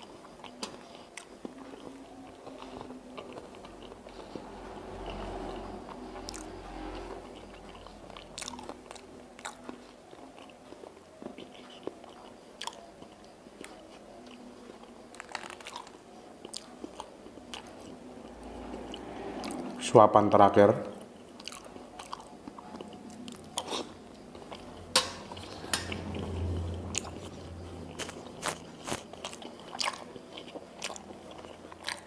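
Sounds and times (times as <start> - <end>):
person chewing: 0.0 - 6.5, 7.4 - 19.6, 21.0 - 32.0.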